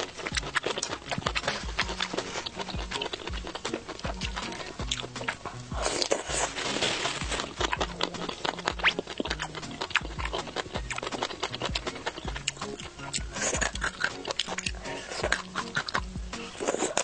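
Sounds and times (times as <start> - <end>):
wet chewing with smacking: 0.0 - 17.0.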